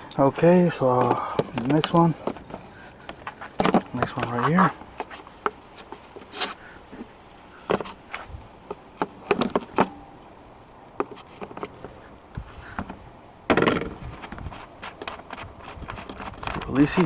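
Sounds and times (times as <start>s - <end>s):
rustle: 0.0s - 17.0s
clicks taps and scrapes on plastic: 0.3s - 10.0s, 10.7s - 17.0s.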